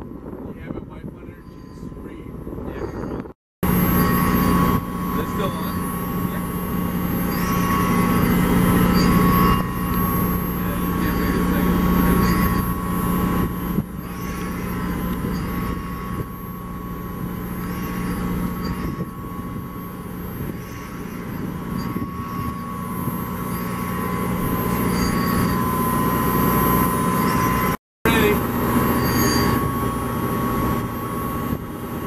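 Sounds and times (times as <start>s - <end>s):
boat machinery low drone: 0.0s - 32.0s
thin whine: 0.0s - 32.0s.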